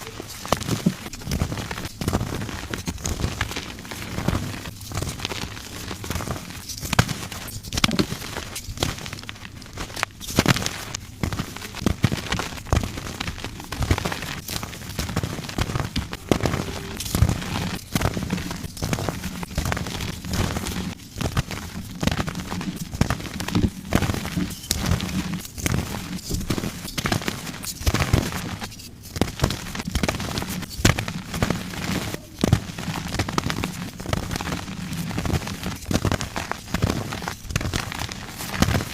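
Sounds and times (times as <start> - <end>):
chalk crunching and crackling: 0.0 - 38.9.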